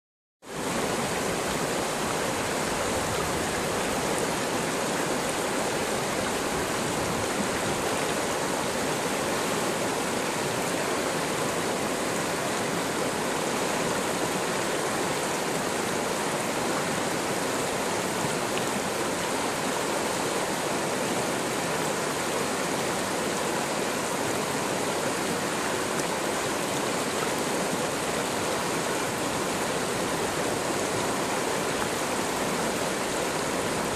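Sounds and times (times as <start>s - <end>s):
river rapids rushing over rocks: 0.5s - 33.9s.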